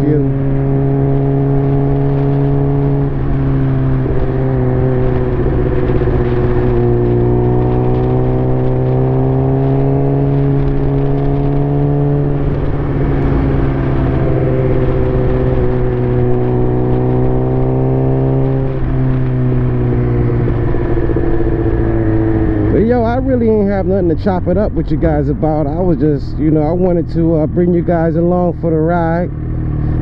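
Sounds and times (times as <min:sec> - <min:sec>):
motorcycle engine revving: 0:00.0 - 0:30.0
wind rumbling on microphone: 0:00.0 - 0:30.0.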